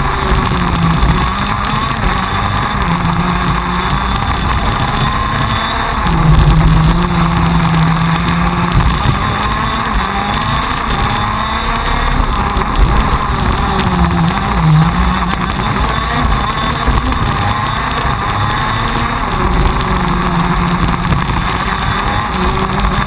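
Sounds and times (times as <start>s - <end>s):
kart engine revving: 0.0s - 23.0s.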